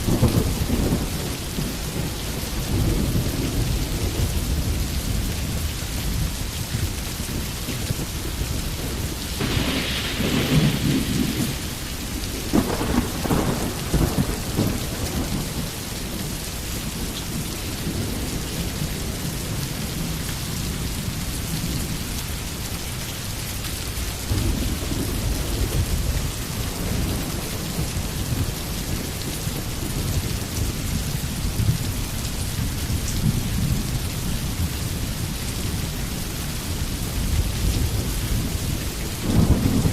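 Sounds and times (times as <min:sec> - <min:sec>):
thunder rumbling: 0:00.0 - 0:22.0, 0:24.2 - 0:34.9, 0:36.9 - 0:39.9
steady rainfall: 0:00.0 - 0:39.9.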